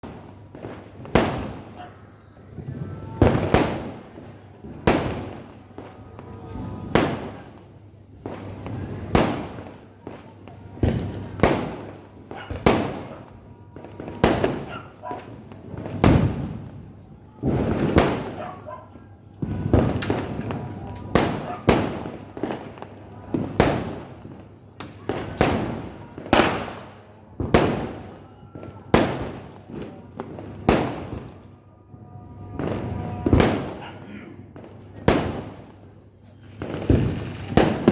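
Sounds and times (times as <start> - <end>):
firecrackers banging with echo: 0.0 - 37.9.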